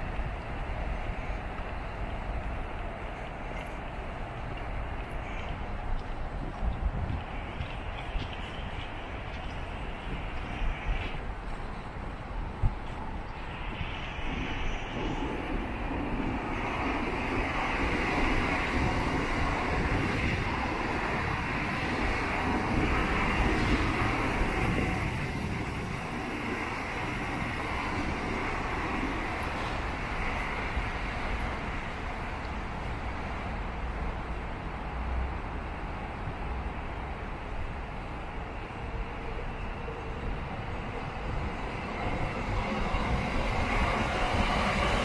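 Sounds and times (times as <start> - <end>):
train wheels rushing on rails: 0.0 - 45.0.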